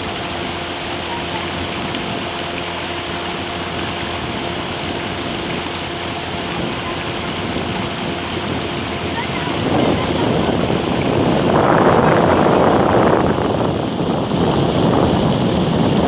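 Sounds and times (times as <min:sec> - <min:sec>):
faint engine hum: 0:00.0 - 0:16.0
water rushing past boat: 0:00.0 - 0:16.0
wind: 0:00.0 - 0:16.0.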